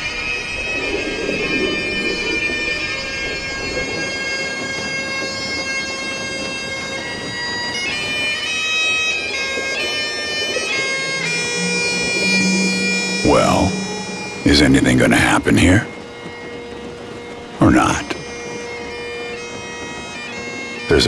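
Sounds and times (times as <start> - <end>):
bagpipe music: 0.0 - 21.0.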